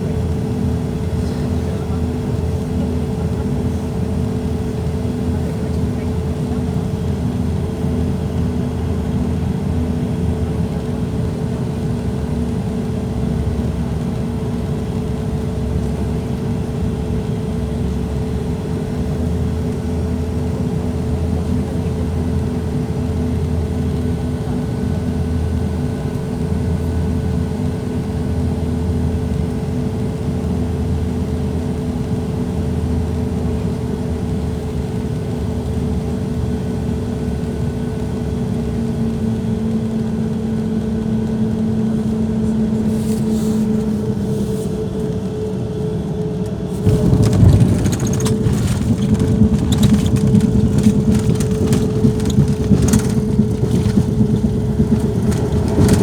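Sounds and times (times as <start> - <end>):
airliner engine drone: 0.0 - 56.0
wheels rumbling on runway: 0.0 - 56.0.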